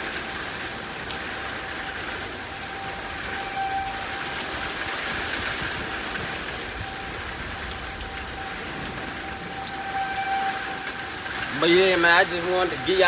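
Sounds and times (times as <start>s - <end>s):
distant warning siren: 0.0s - 13.0s
heavy rain falling: 0.0s - 13.0s.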